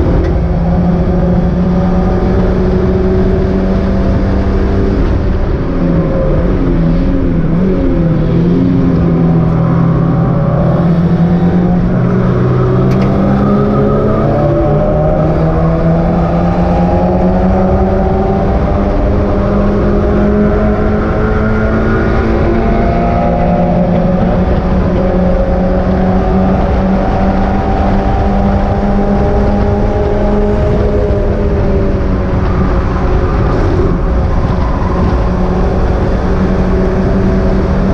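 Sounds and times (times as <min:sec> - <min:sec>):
race car engine at high revs: 0:00.0 - 0:37.9.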